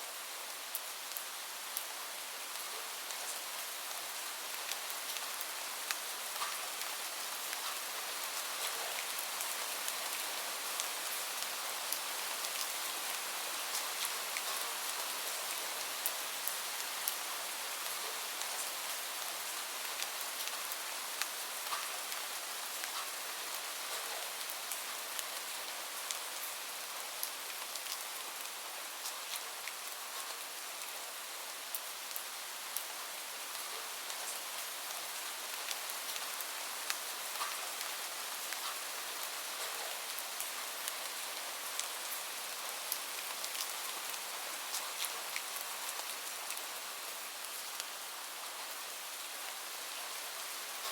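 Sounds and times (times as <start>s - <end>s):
gentle rain hiss: 0.0s - 50.9s.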